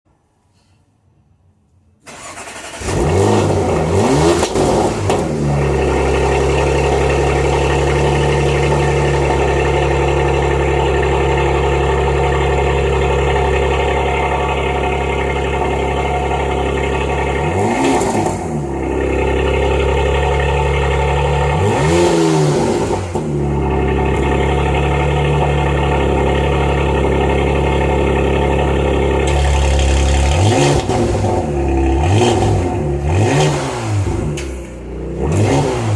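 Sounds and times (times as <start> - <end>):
car engine starting and idling: 2.0 - 35.9
engine revving: 2.1 - 35.9.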